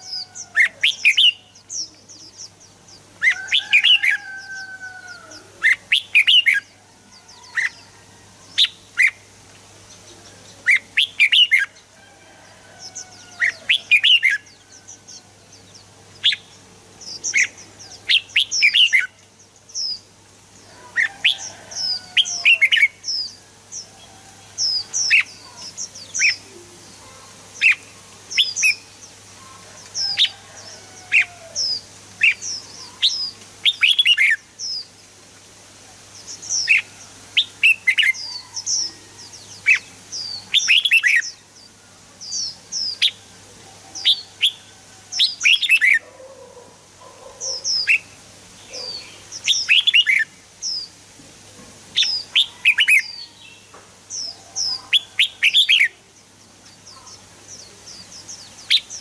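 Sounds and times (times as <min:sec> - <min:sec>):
bird chirping: 0:00.0 - 0:07.9, 0:08.6 - 0:11.8, 0:12.9 - 0:35.0, 0:36.2 - 0:51.0, 0:51.9 - 0:59.0.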